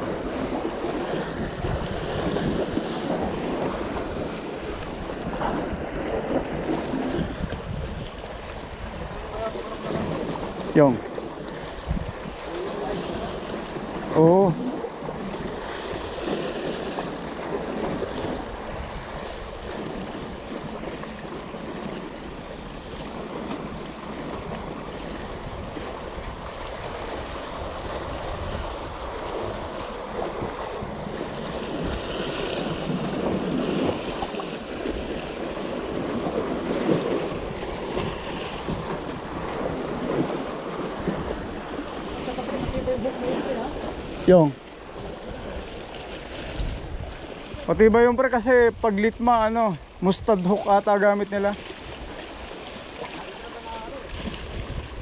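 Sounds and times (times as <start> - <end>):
waves washing against rocks: 0.0 - 55.0
wind buffeting microphone: 0.0 - 55.0.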